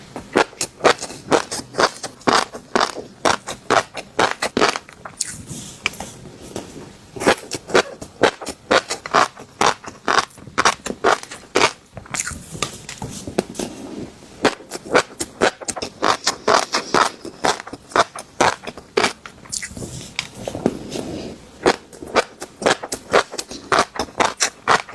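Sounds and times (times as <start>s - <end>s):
fish roe crackling and popping: 0.0s - 6.0s, 6.6s - 13.7s, 14.4s - 24.9s.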